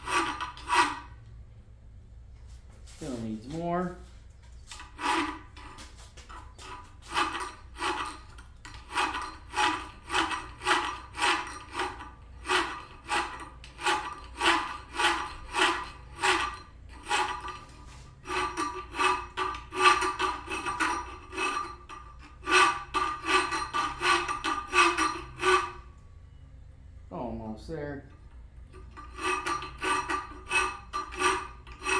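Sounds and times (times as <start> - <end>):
hand file scraping metal: 0.0 - 1.3, 2.9 - 26.0, 28.2 - 31.9.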